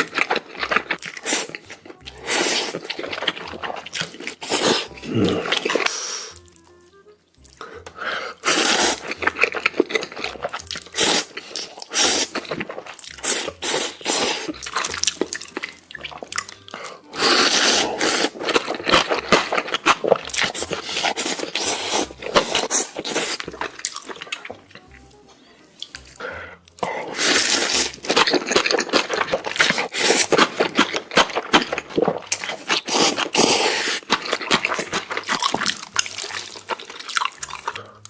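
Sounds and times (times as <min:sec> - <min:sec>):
slurping noodles: 0:00.0 - 0:06.4, 0:07.5 - 0:24.7, 0:25.8 - 0:38.0
wet chewing: 0:00.0 - 0:38.0.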